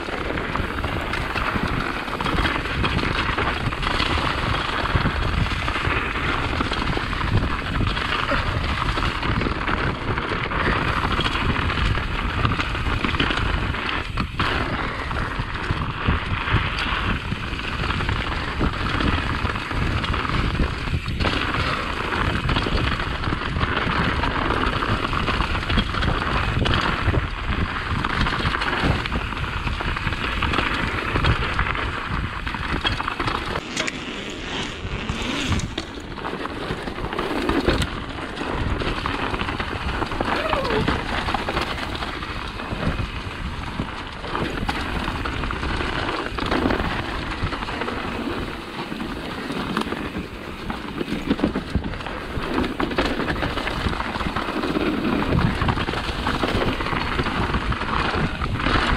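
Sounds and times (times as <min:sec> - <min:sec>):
bike rattling over rough ground: 0:00.0 - 0:58.9.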